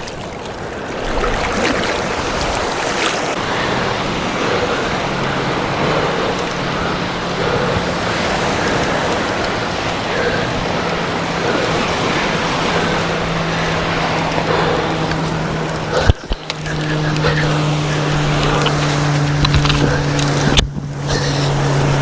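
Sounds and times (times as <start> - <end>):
ocean surf washing onto beach: 0.0 - 22.0
wind buffeting microphone: 0.0 - 22.0.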